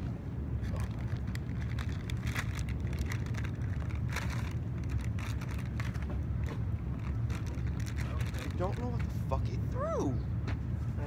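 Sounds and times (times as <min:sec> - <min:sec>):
steady low rumble: 0:00.0 - 0:11.0
crackling and rustling handling: 0:00.6 - 0:09.6.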